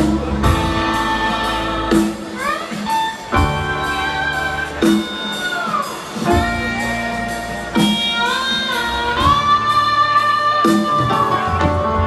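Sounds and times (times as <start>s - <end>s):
live rock band: 0.0s - 12.0s.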